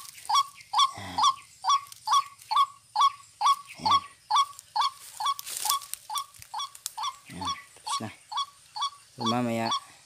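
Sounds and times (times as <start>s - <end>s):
bird call through phone speaker: 0.3s - 9.9s.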